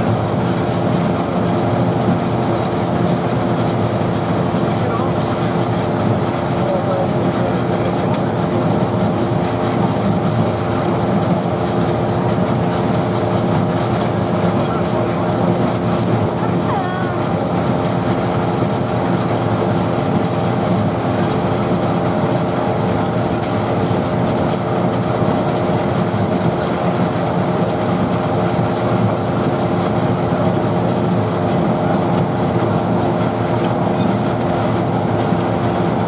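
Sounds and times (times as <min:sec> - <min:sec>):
threshing machine running: 0:00.0 - 0:36.0.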